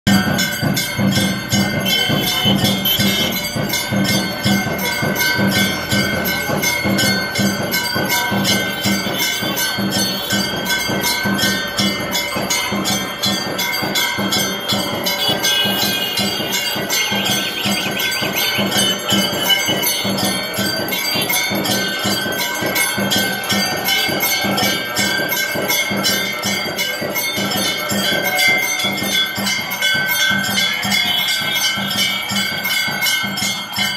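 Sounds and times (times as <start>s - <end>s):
hand bell ringing fast: 0.1s - 33.9s
pulsing low beat: 0.1s - 33.9s.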